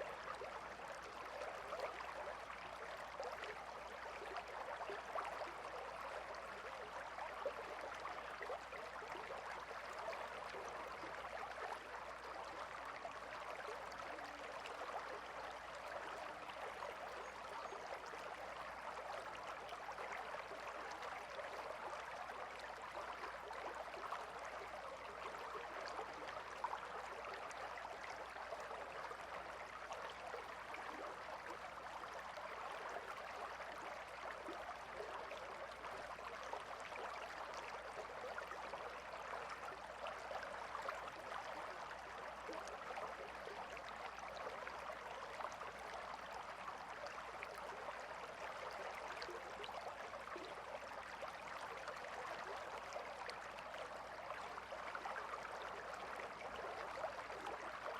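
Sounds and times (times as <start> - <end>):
river water flowing: 0.2 - 57.9.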